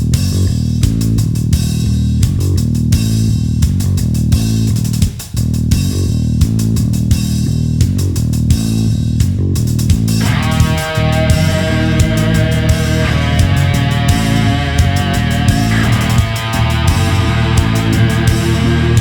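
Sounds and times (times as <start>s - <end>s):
instrumental rock music: 0.0s - 19.0s.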